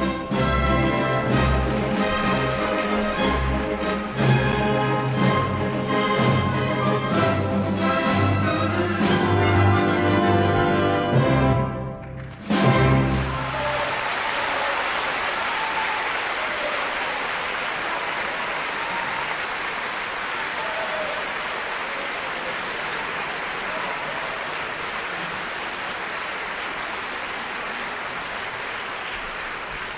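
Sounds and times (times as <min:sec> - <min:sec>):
audience applauding: 0:00.0 - 0:07.2, 0:12.0 - 0:29.9.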